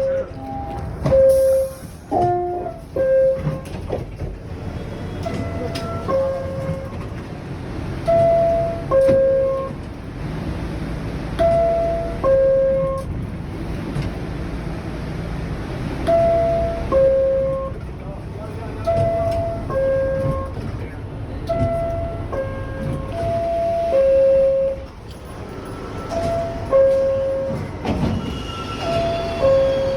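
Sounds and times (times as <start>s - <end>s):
subway door chimes: 0.0s - 10.1s, 11.3s - 13.2s, 16.0s - 29.9s
train rumble: 0.0s - 29.9s.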